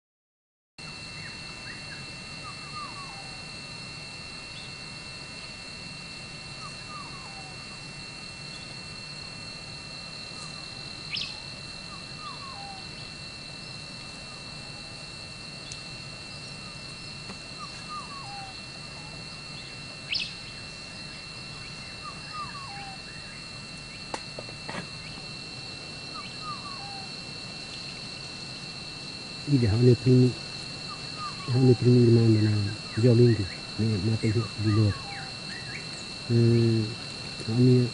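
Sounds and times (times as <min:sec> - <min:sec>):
high-pitched insect chorus: 0:00.8 - 0:37.9.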